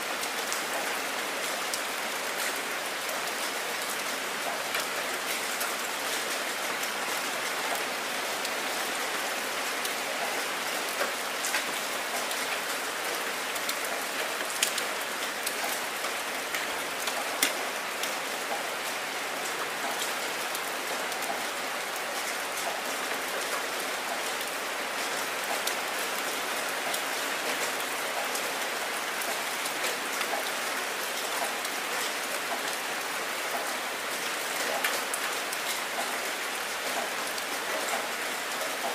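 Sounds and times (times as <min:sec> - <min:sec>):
heavy rain splashing: 0:00.0 - 0:38.9.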